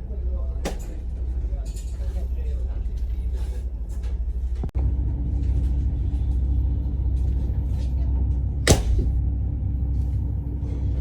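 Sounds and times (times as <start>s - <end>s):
low machinery rumble: 0.0s - 11.0s.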